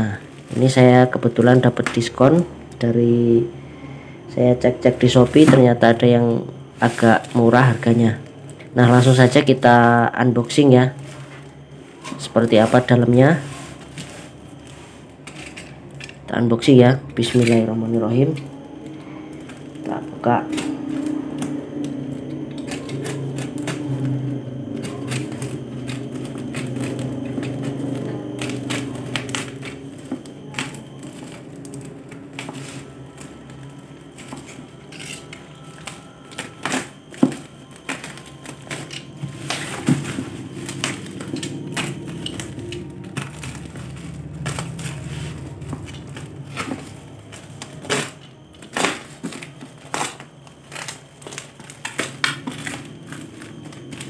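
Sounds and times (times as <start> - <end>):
low hum: 0.0 - 54.0
plastic wrapping crinkling: 0.0 - 54.0.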